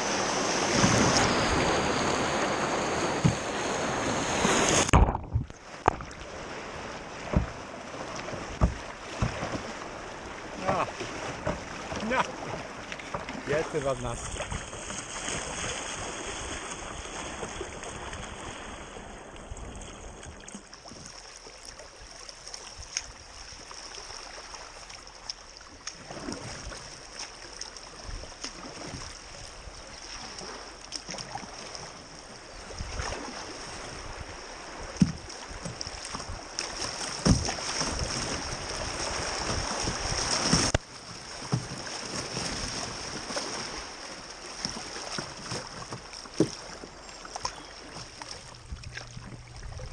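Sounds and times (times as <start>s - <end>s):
river water rushing against kayak: 0.0s - 49.9s.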